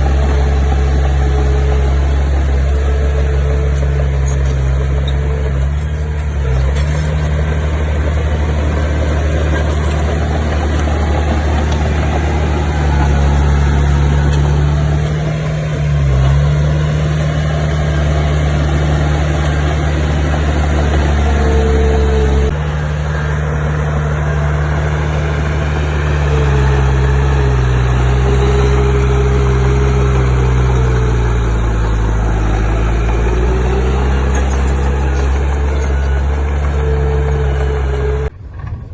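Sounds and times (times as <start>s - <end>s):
earthmoving machine diesel engine: 0.0s - 38.9s.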